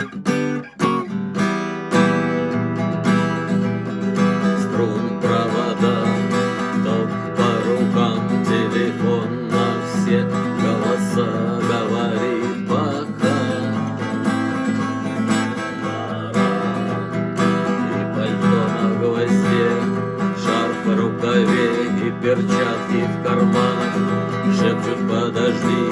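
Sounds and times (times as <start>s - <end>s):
strummed acoustic guitar: 0.0s - 25.9s.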